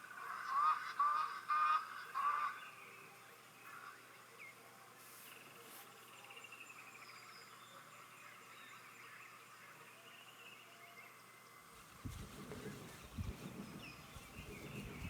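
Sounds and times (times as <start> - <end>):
distant bird chirps and trills: 0.0 - 15.0.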